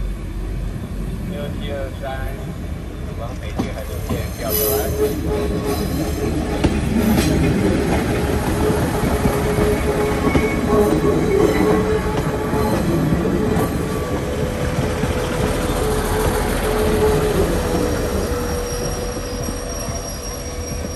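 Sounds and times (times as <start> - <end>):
railcar wheels and engine rumble: 0.0 - 20.9.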